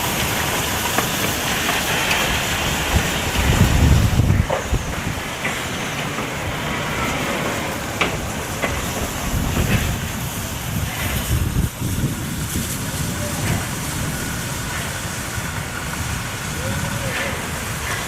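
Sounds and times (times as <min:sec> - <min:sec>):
steam locomotive low rumble: 0:00.0 - 0:18.0.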